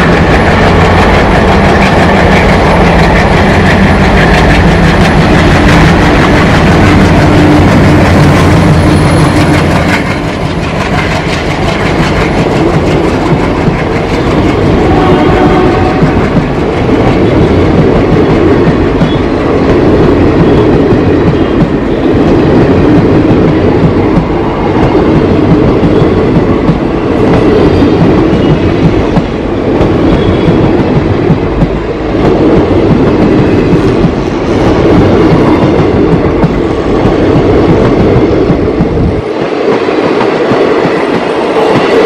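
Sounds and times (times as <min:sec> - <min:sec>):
train coaches rumbling past: 0:00.0 - 0:42.0.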